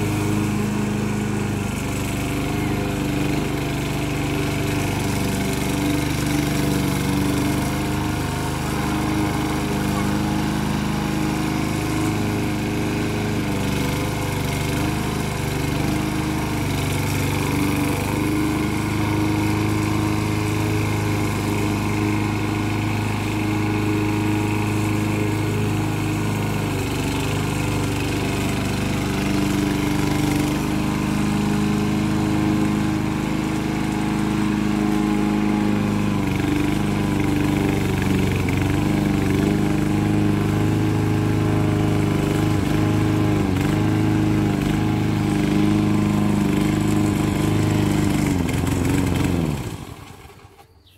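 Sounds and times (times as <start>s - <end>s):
lawn mower engine running: 0.0s - 50.9s.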